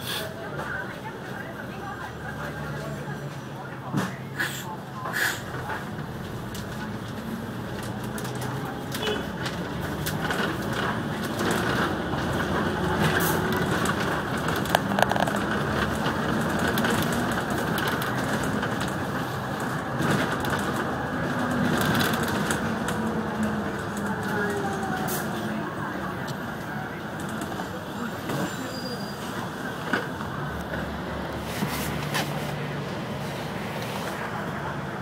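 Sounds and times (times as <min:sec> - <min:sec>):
bus engine hum and road noise: 0:00.0 - 0:35.0.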